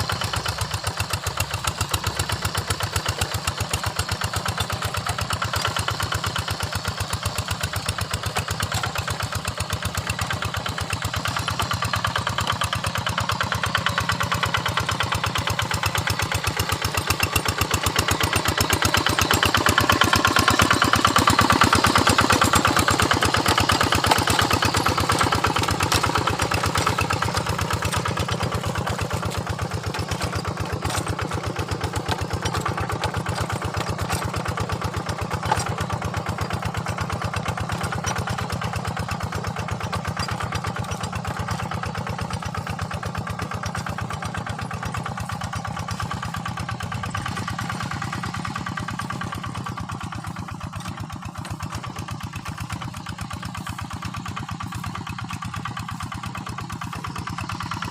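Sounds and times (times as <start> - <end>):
diesel engine chugging: 0.0 - 57.9.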